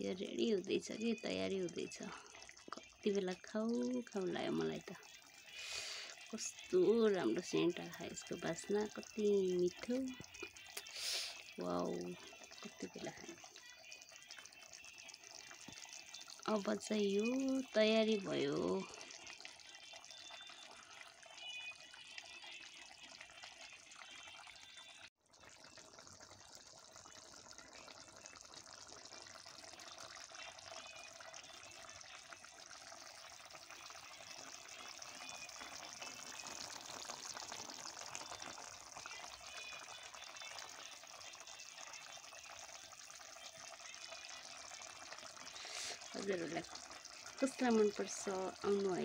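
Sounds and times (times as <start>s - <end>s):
curry bubbling: 0.0s - 49.0s.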